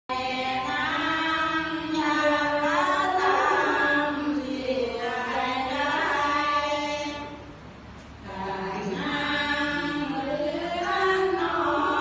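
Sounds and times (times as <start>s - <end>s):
group chanting in long held notes: 0.1s - 7.3s, 8.3s - 12.0s.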